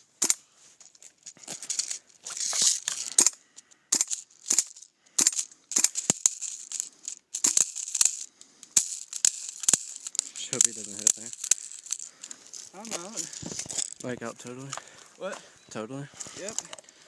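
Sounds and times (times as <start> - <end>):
rustling: 0.0 - 17.0
airsoft guns popping: 0.2 - 0.4, 1.4 - 14.9.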